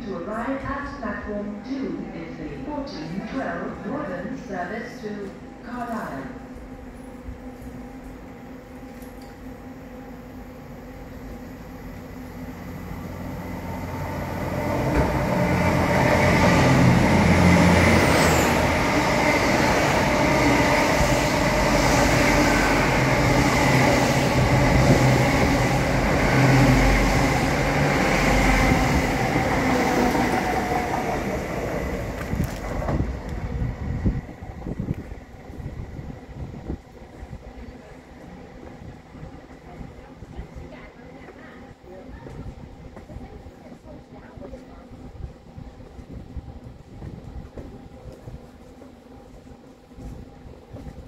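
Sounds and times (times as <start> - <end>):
train engines droning: 0.0 - 51.0
train wheels on rails: 6.6 - 51.0.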